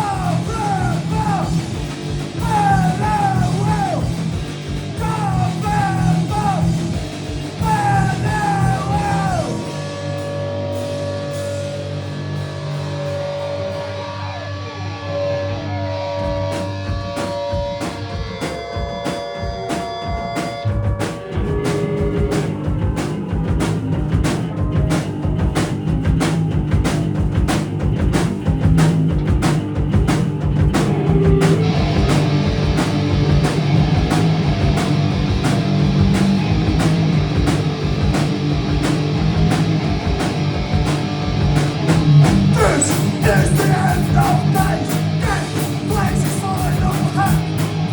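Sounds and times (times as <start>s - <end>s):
fast driving drums: 0.0s - 14.3s, 15.9s - 47.9s
punk band playing: 0.0s - 47.9s.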